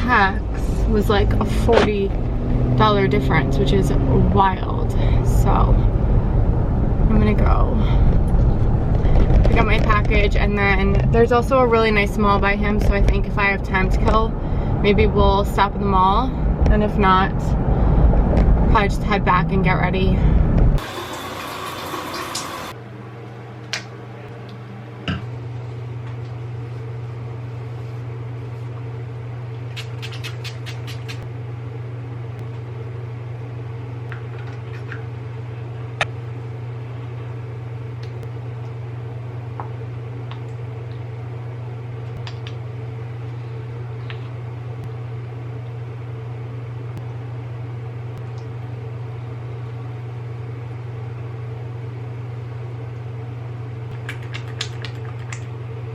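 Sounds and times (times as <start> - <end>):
low machine hum: 0.0 - 55.9.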